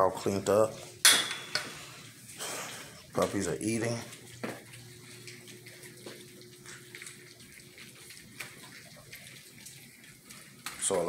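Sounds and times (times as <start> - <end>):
puppies eating wet food: 0.0 - 11.0.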